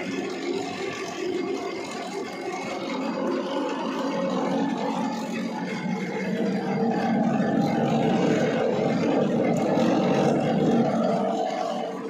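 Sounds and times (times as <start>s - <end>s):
machine running with motor and pulleys: 0.0s - 12.0s.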